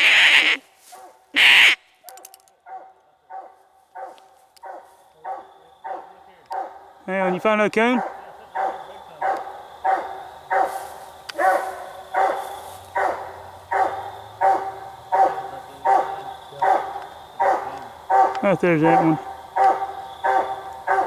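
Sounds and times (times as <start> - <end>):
dog barking rhythmically: 2.7 - 10.7, 11.4 - 21.0.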